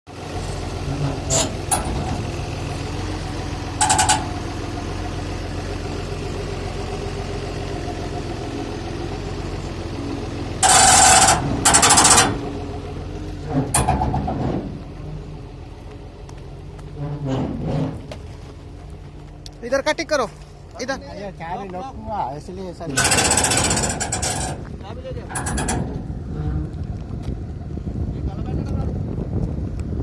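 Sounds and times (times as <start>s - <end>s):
heavy vehicle engine idling: 0.1s - 29.8s.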